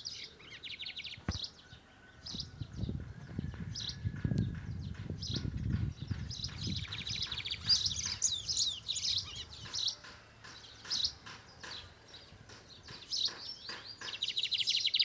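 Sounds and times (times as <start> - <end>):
bird singing trilled notes: 2.4 - 15.0.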